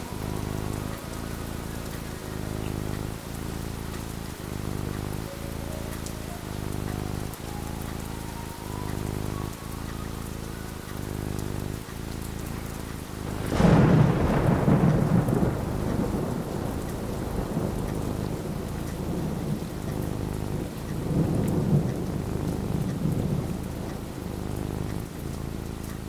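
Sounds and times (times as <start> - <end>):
thunder cracking and rumbling: 0.0 - 25.9
steady rain: 0.0 - 26.0.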